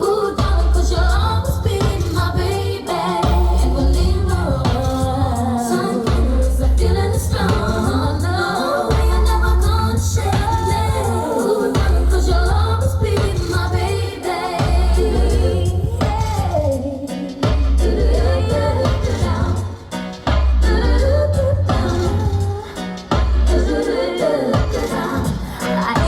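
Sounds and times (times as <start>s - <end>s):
person singing: 0.0s - 26.0s
heavy pulsing bass line: 0.4s - 16.8s, 17.4s - 24.0s.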